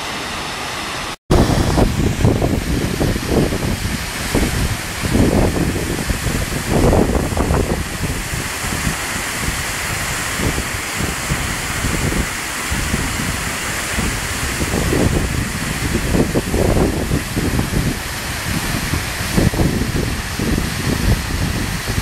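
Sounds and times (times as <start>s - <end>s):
waterfall rushing water: 0.0s - 22.0s
wind buffeting microphone: 1.3s - 22.0s.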